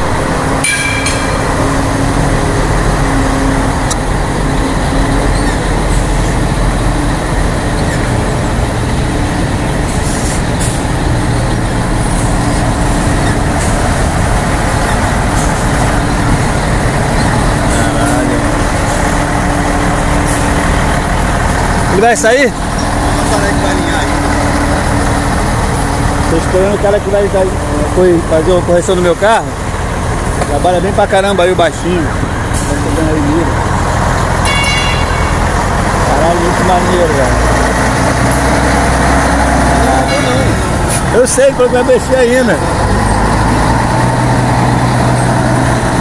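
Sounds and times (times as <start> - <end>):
truck diesel engine: 0.0 - 46.0.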